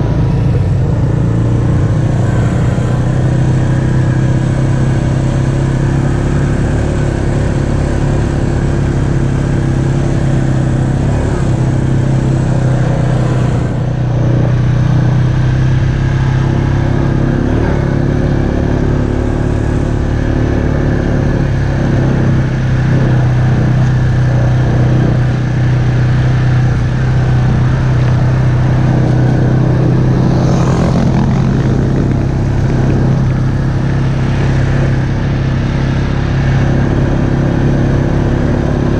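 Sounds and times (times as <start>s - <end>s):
atv engine running steadily: 0.0s - 38.9s.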